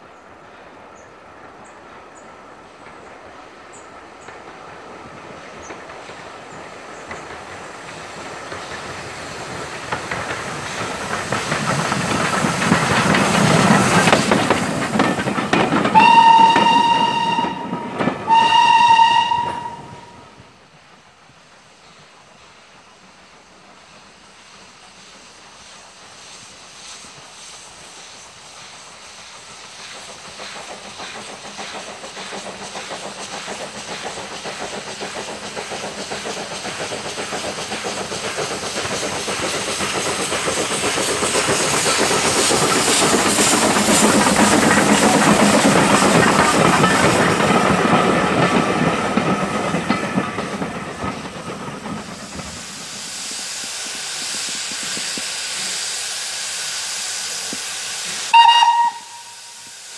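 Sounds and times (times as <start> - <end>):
steam hissing from locomotive: 0.0 - 59.9
steam engine chuffing: 4.2 - 20.5, 22.8 - 59.9.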